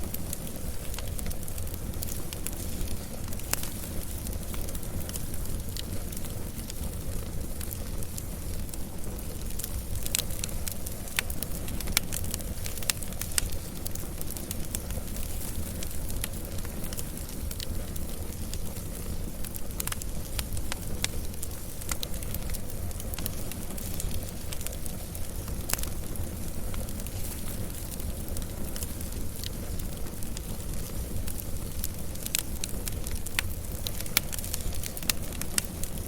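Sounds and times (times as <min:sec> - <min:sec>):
fire crackling and popping: 0:00.0 - 0:36.0
rumble of burning flames: 0:00.0 - 0:36.0.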